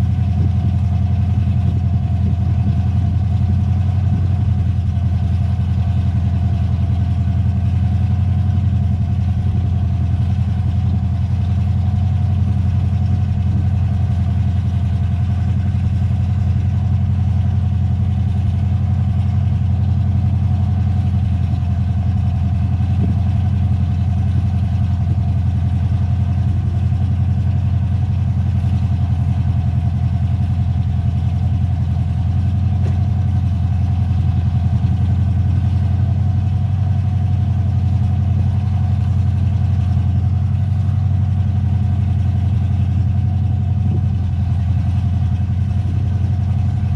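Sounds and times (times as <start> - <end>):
engine droning steadily: 0.0 - 46.9.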